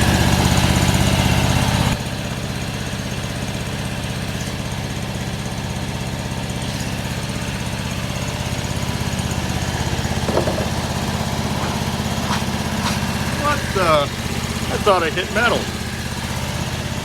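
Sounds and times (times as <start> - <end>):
sawmill engine droning: 0.0 - 17.0.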